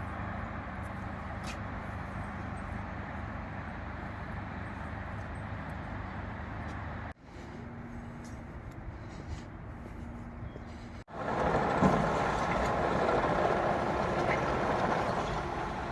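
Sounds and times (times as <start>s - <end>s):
diesel train rumbling: 0.0s - 15.9s.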